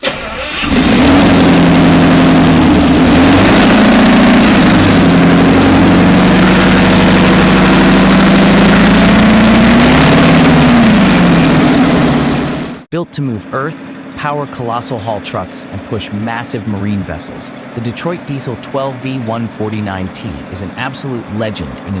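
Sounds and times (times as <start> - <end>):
industrial engine running: 0.0 - 22.0.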